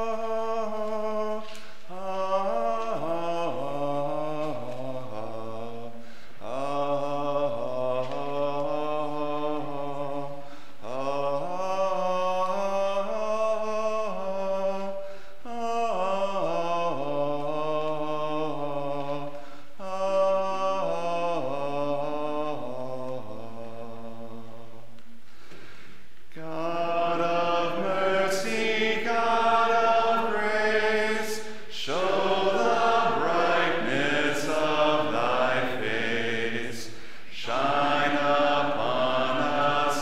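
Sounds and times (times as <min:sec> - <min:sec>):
congregation singing a hymn: 0:00.0 - 0:24.9, 0:26.3 - 0:40.0.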